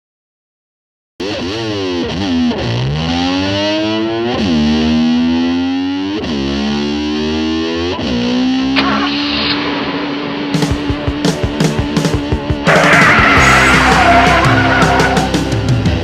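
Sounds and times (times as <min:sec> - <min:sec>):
distorted electric slide guitar: 0:01.2 - 0:16.0.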